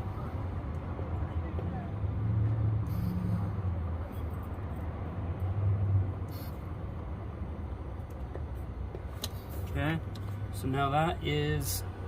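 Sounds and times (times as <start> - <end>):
faint road traffic: 0.0 - 12.0.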